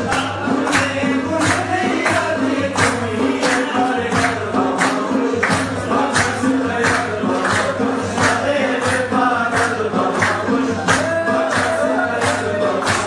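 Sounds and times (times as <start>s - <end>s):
dance music with singing: 0.0s - 13.0s.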